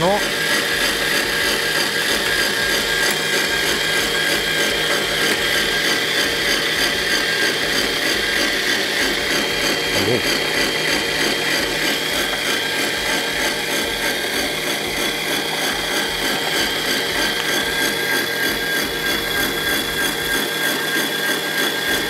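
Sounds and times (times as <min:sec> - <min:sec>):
electric meat grinder whining: 0:00.0 - 0:22.0.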